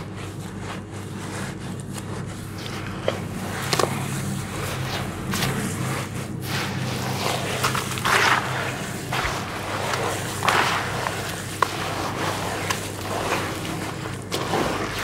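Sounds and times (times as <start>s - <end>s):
hands squishing wet mud: 0.0s - 15.0s
loud wet squelches: 0.5s - 15.0s.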